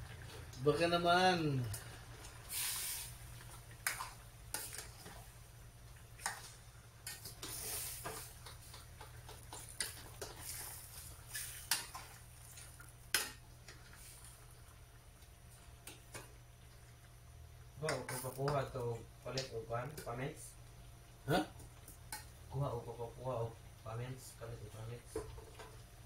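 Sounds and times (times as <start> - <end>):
meat sizzling: 0.0 - 26.0.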